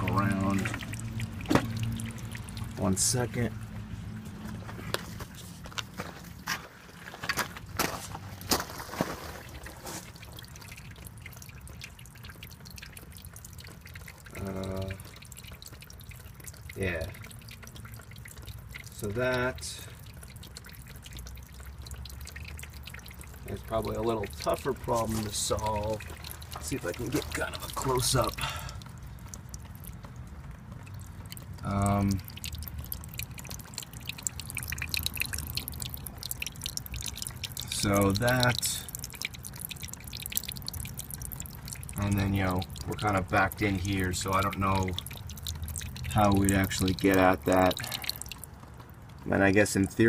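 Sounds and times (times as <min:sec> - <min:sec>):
water dripping: 0:00.0 - 0:50.0.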